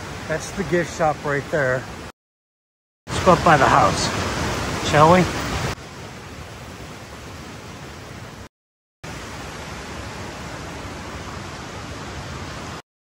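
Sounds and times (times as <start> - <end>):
flowing spring water: 0.0 - 2.1, 3.1 - 12.8.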